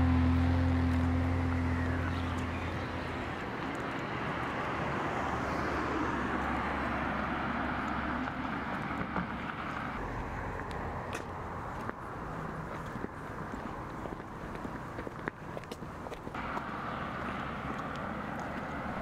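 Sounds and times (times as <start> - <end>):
traffic rumble: 0.0 - 19.0
vehicle passing: 0.0 - 19.0.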